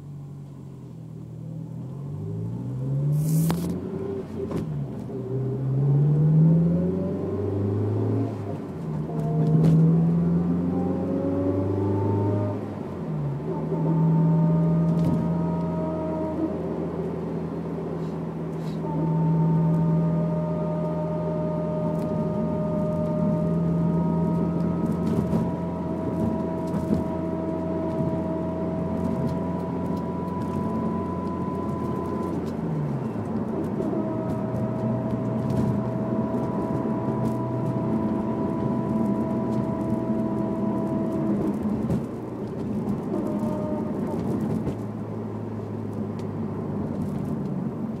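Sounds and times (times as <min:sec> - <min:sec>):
car engine driving: 0:00.0 - 0:48.0.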